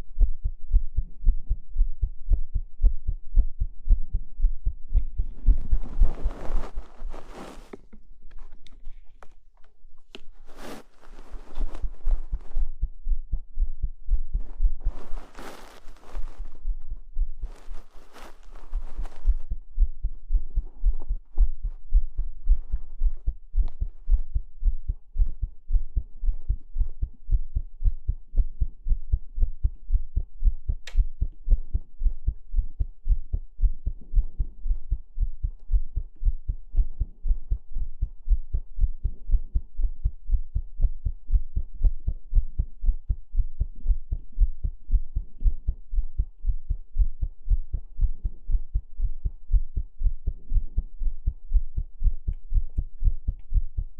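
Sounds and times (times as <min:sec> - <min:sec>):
heartbeat thumps: 0:00.0 - 0:07.8, 0:10.2 - 0:53.9.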